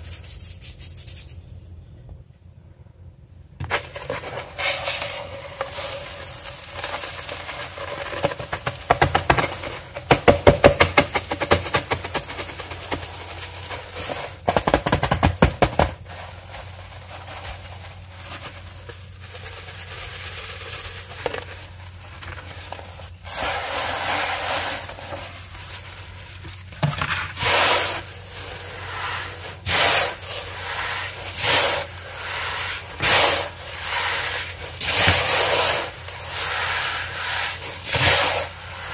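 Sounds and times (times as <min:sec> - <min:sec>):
cornstarch crunching and crackling: 0:03.6 - 0:38.9.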